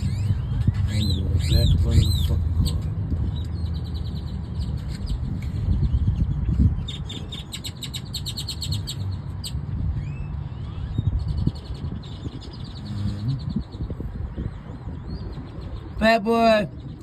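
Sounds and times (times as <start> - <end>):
steady low rumble: 0.0 - 7.4, 8.6 - 17.0
small birds chirping: 0.0 - 17.0.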